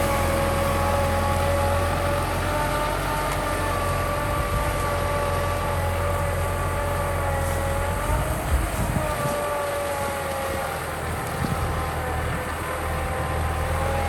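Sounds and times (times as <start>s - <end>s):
steady whine: 0.0s - 14.0s
tractor diesel engine drone: 0.0s - 14.0s.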